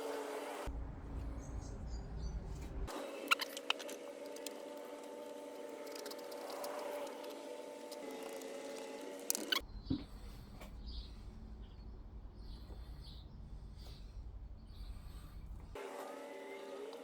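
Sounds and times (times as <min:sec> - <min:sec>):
steady hum with held tones: 0:00.0 - 0:17.0.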